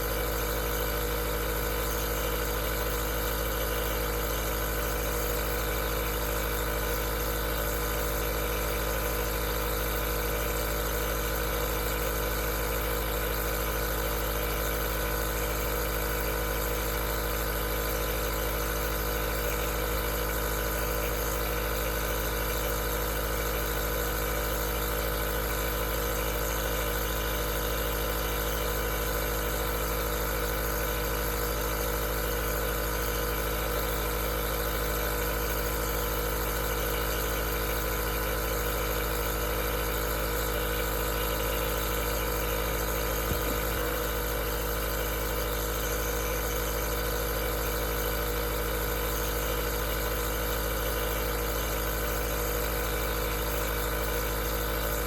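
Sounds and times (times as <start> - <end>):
nebulizer motor hum and hiss: 0.0 - 55.0.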